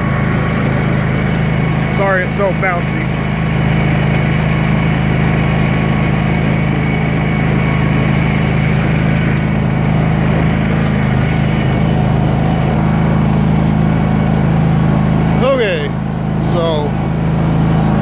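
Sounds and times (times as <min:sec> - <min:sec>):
mower engine at full throttle: 0:00.0 - 0:18.0.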